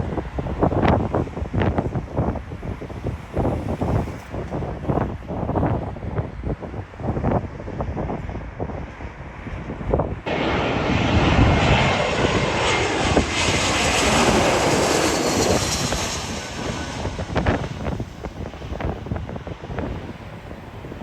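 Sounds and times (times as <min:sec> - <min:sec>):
airliner engines passing overhead: 0:00.0 - 0:21.0
wind buffeting microphone: 0:00.0 - 0:21.0.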